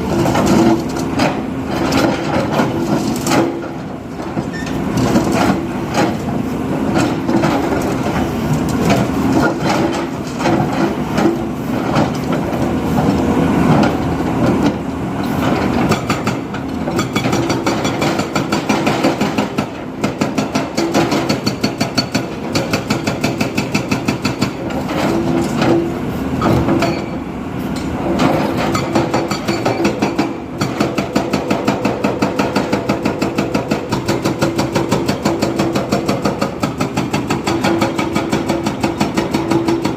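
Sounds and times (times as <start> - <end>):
diesel construction machinery drone: 0.0 - 39.9.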